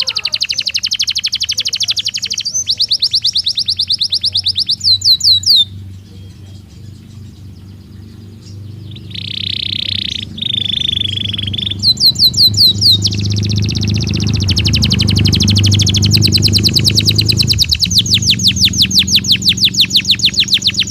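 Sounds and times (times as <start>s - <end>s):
canary singing: 0.0s - 20.9s.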